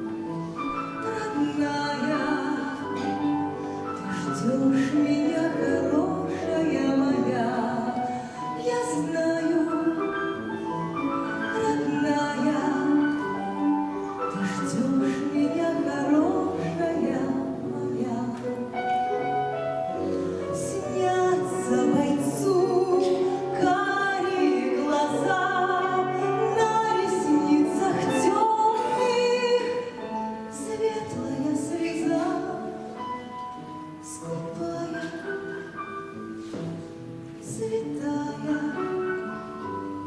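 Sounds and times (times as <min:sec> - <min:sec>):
instrumental accompaniment: 0:00.0 - 0:40.0.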